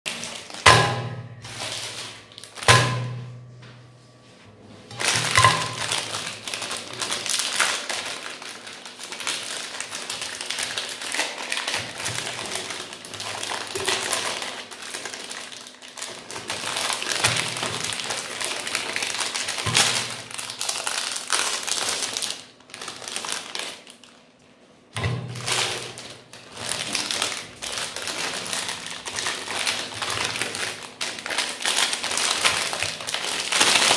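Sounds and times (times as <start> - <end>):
plastic wrappers crinkling and tearing: 0.1 - 3.0, 4.9 - 33.9.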